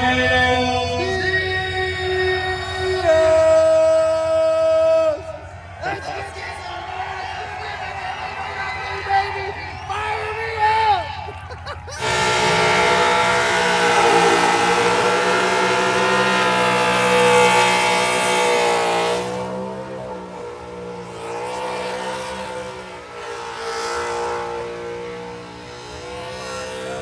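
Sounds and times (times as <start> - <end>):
car engine revving: 0.0 - 27.0
tire noise: 0.0 - 27.0.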